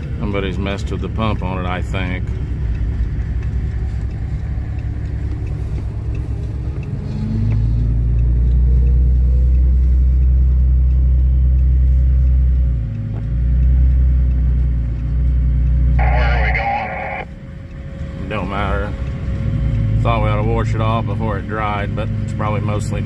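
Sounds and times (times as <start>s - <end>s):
vehicle cab driving rumble: 0.0s - 23.0s.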